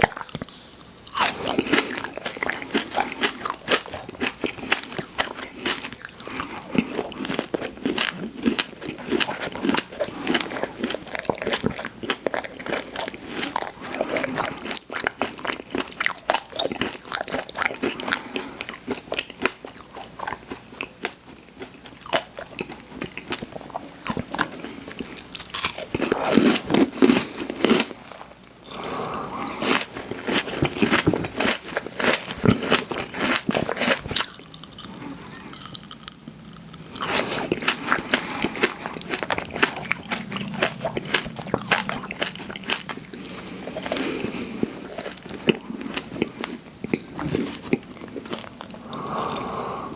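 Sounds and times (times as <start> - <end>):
crunchy cookie chewing: 0.0 - 49.9.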